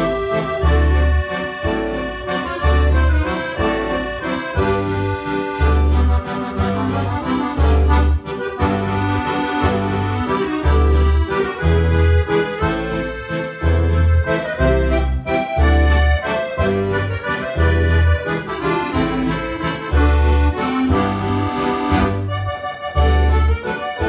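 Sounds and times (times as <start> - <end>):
accordion playing lively tune: 0.0 - 24.0.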